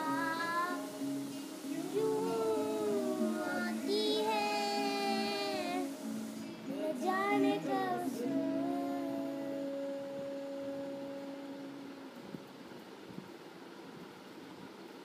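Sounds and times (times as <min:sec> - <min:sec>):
boy singing without words: 0:00.0 - 0:12.2
steady drone: 0:00.0 - 0:12.3.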